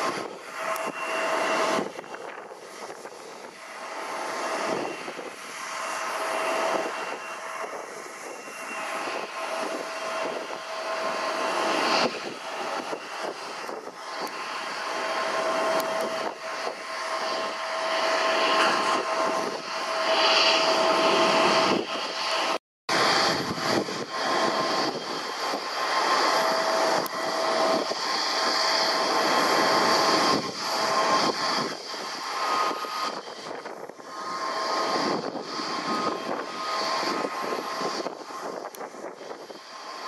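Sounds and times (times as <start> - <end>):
distant jet engines whining: 0.0 - 40.0.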